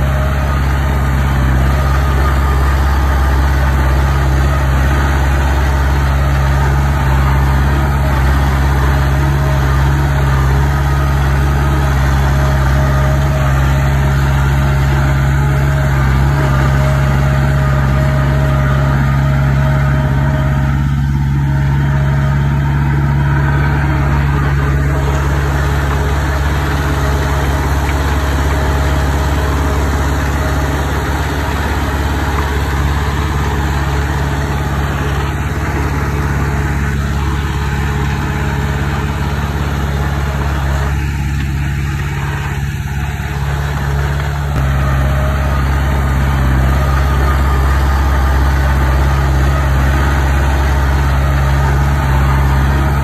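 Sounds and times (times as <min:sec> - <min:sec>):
diesel engine low drone: 0:00.0 - 0:53.0.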